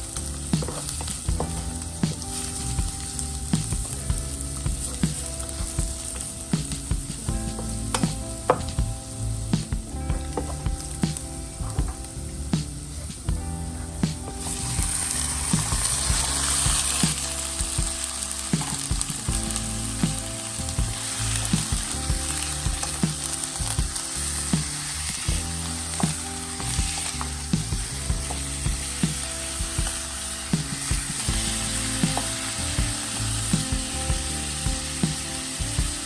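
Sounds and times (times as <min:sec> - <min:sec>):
food sizzling in oil: 0:00.0 - 0:12.3, 0:14.3 - 0:36.0.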